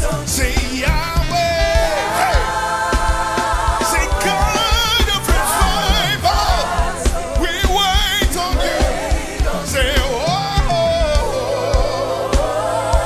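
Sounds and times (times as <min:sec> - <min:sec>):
band with steady drum beat: 0:00.0 - 0:13.0
person singing with vibrato: 0:00.0 - 0:13.0.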